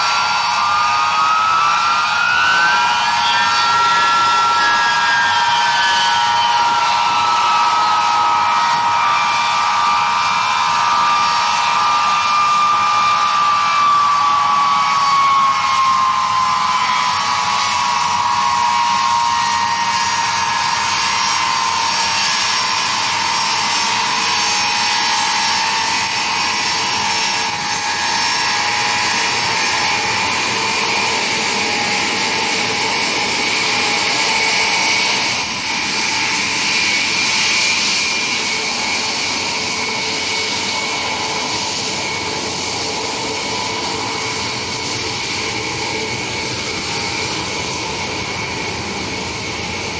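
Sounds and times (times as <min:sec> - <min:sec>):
jet engines whining while taxiing: 0:00.0 - 0:49.9.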